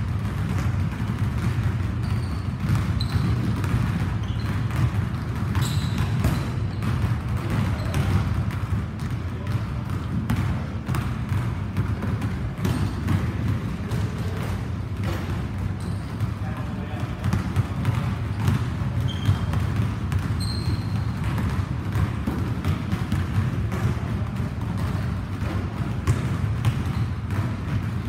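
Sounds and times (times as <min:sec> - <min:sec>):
basketball bouncing on wooden floor: 0:00.0 - 0:28.0
sneakers squeaking: 0:00.1 - 0:28.0.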